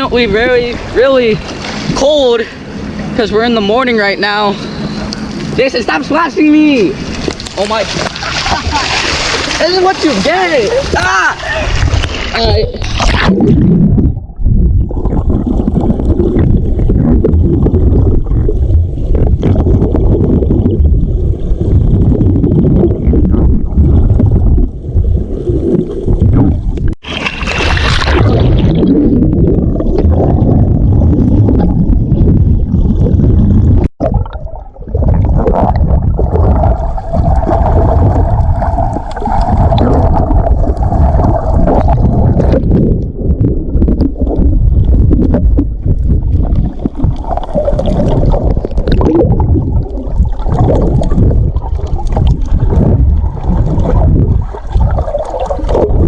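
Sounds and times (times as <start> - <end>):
underwater sloshing and gurgling: 0.0 - 56.0.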